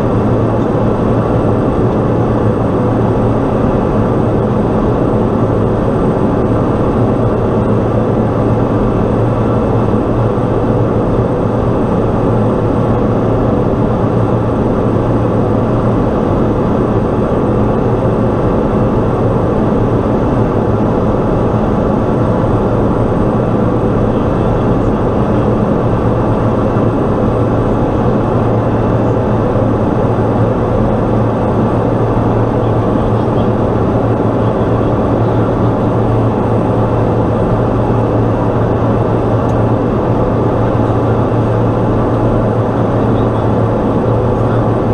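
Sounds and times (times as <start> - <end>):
low propeller hum: 0.0 - 44.9
turboprop engine drone: 0.0 - 44.9.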